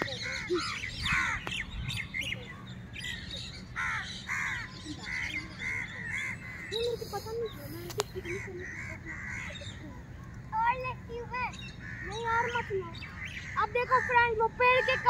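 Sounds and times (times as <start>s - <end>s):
crows cawing: 0.0s - 1.7s, 3.0s - 15.0s.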